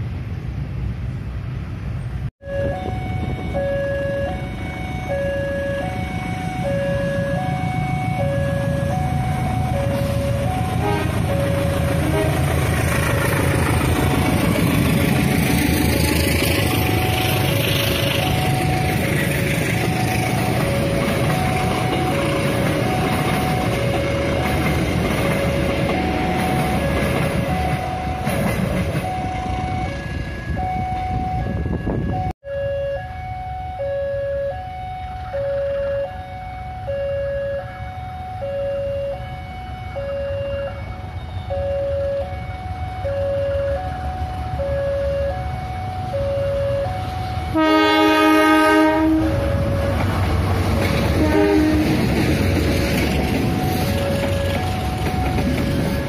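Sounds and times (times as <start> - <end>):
locomotive engine and wheels rumble: 0.0 - 56.0
two-tone crossing alarm: 2.4 - 56.0.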